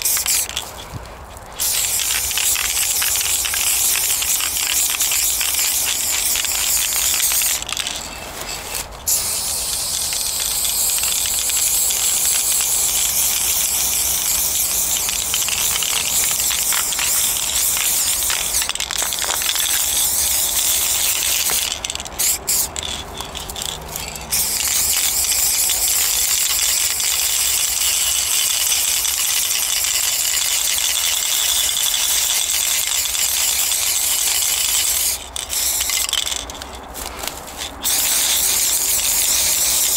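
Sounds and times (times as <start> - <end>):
spray paint can hissing: 0.0 - 39.9.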